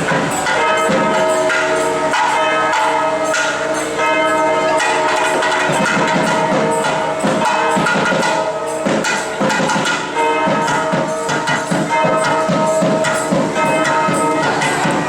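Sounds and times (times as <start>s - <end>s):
bells ringing: 0.0s - 15.0s
devotional music with percussion: 0.0s - 15.0s.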